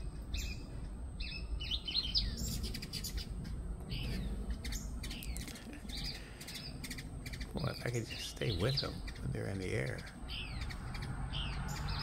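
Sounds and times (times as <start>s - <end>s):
hummingbirds chirping: 0.0s - 12.0s.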